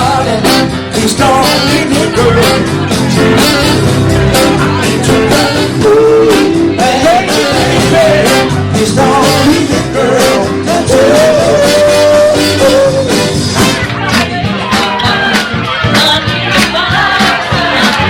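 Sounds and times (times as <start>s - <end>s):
drums: 0.0s - 18.0s
guitar: 0.0s - 18.0s
person singing: 0.0s - 18.0s.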